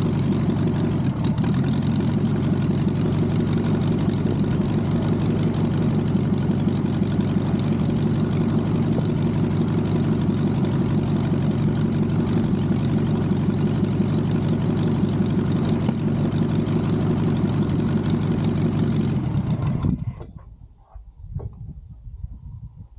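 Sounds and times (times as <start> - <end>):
aircraft engine running: 0.0 - 20.4.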